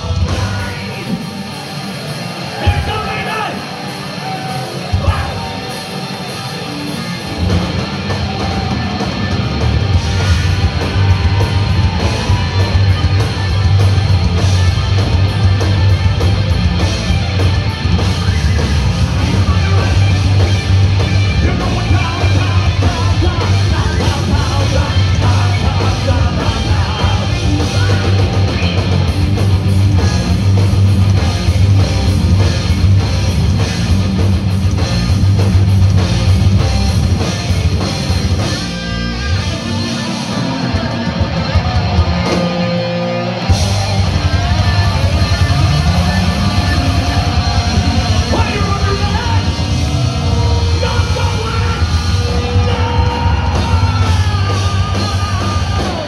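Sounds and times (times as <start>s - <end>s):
live heavy metal band: 0.0s - 56.0s.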